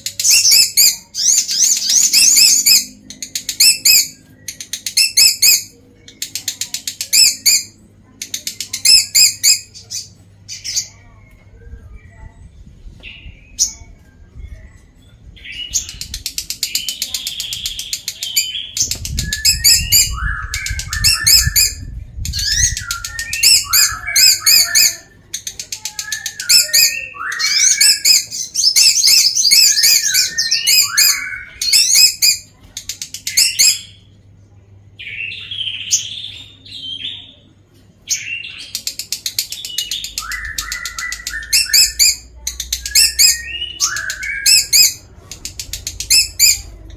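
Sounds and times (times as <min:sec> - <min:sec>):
lovebird chirping and trilling: 0:00.0 - 0:11.1, 0:13.0 - 0:34.1, 0:38.1 - 0:46.9.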